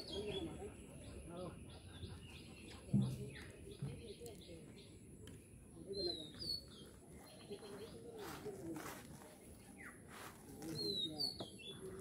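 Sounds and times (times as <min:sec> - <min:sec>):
faint background chirping: 0:00.0 - 0:12.0.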